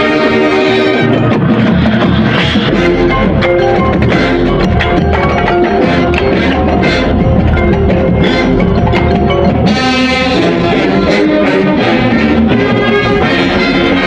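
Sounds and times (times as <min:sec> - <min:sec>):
mallet instrument notes: 0:00.0 - 0:14.0
marching band playing: 0:00.0 - 0:14.0
struck percussion: 0:01.0 - 0:14.0.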